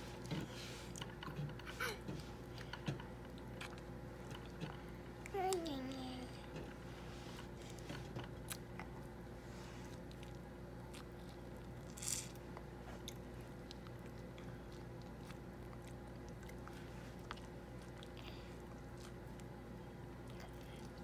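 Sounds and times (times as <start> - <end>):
child chewing juicy fruit: 0.0 - 21.0.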